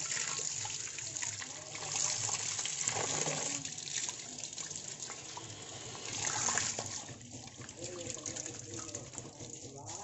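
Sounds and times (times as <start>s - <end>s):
hose water splashing in plastic chamber: 0.0s - 10.0s.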